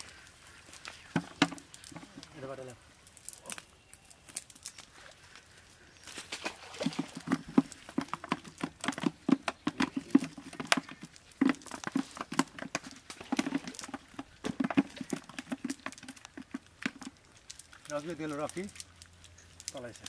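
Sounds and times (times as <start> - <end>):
fish flapping on earth: 3.2 - 19.8.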